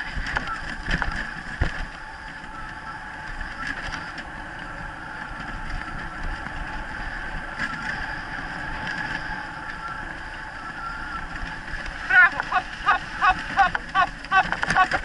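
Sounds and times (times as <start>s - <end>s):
wheels rolling over dirt track: 0.0s - 15.0s.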